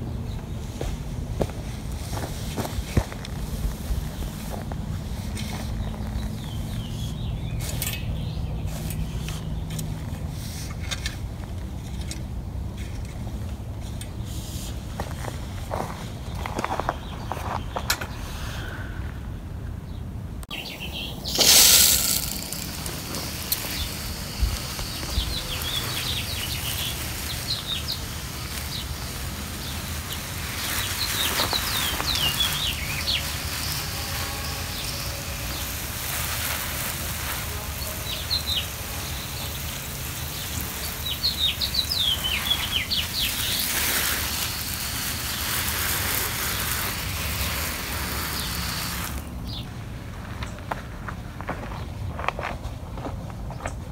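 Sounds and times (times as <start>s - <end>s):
birds chirping: 0.0s - 10.3s, 15.0s - 49.7s
garden hose spraying water: 0.0s - 15.9s, 20.5s - 49.7s.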